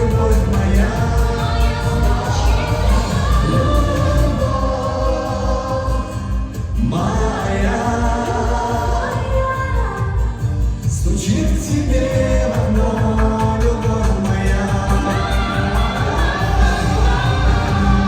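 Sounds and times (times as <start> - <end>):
man singing: 0.0 - 9.4, 10.8 - 18.0
steady bass beat: 0.0 - 18.0.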